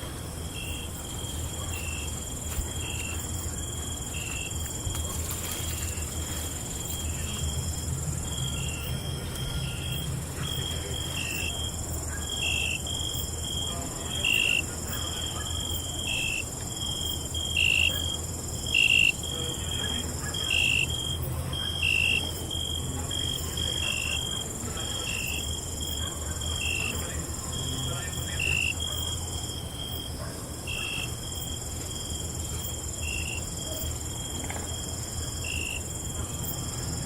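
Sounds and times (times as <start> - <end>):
cricket chirp: 0.0 - 37.0
crickets trilling: 0.0 - 37.0.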